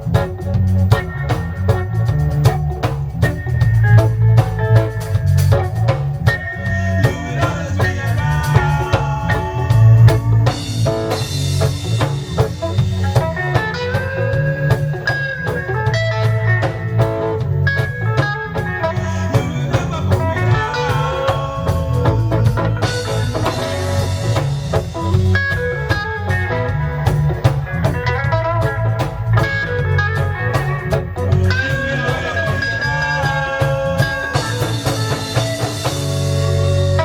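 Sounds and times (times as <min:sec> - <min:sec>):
live reggae band playing: 0:00.0 - 0:37.0
pulsing bass line: 0:00.0 - 0:37.0.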